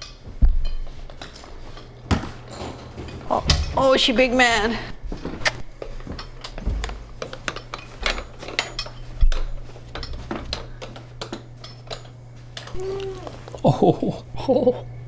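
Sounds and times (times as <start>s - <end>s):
metal hardware clinking: 0.0s - 13.6s
steady low hum: 0.0s - 15.0s.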